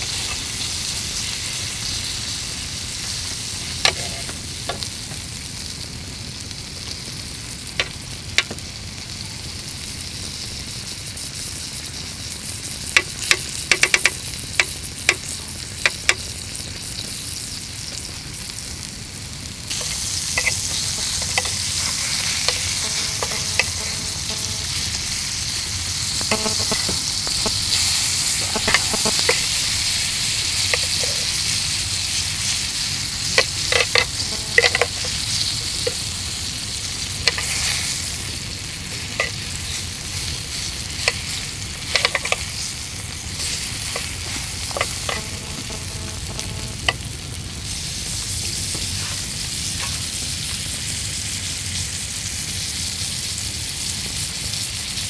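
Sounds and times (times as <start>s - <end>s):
food sizzling in pan: 0.0s - 55.0s.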